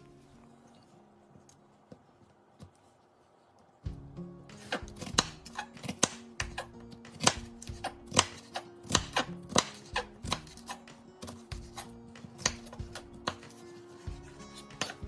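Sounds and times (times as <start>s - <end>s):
background music: 0.0s - 2.2s, 3.8s - 15.0s.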